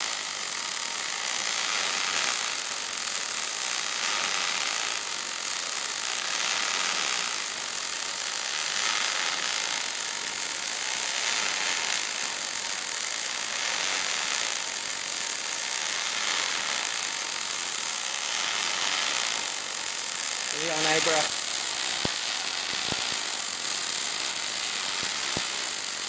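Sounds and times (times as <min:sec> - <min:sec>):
welding arc crackling and sizzling: 0:00.0 - 0:26.0.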